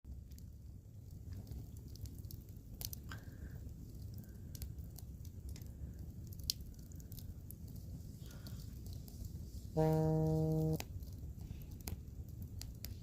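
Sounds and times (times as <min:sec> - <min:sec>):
fire pops and snaps: 0:00.1 - 0:13.0
wood fire crackling: 0:00.1 - 0:13.0.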